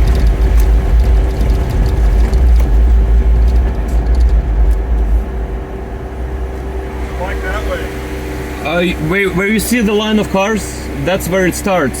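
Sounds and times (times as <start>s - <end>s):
vehicle driving slowly: 0.0s - 12.0s.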